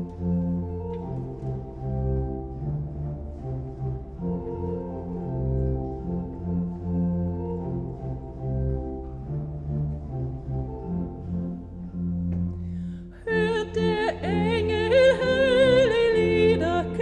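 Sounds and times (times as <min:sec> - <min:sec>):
pipe organ playing chords: 0:00.0 - 0:17.0.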